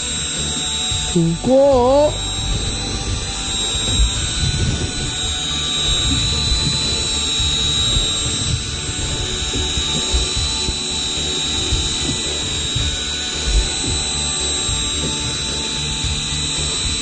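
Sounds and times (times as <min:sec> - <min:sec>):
electric fishing reel whining: 0:00.0 - 0:17.0.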